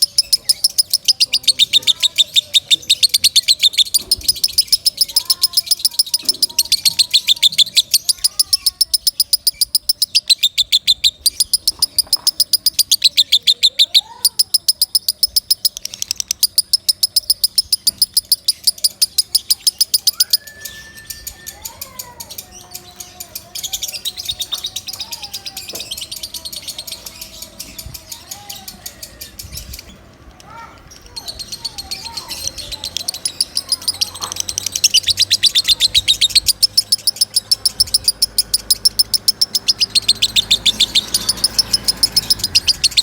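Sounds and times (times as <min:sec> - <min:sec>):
lovebird rapid chattering chirps: 0:00.0 - 0:43.0
soft bird chirping: 0:00.0 - 0:43.0.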